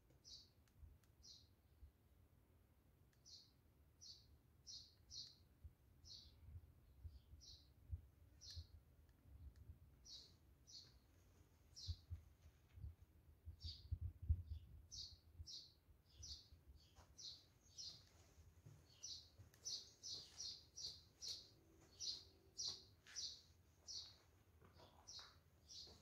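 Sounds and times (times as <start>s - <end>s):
small bird chirping: 0.2s - 1.6s, 3.1s - 11.0s, 11.7s - 12.2s, 13.5s - 18.2s, 18.8s - 26.0s.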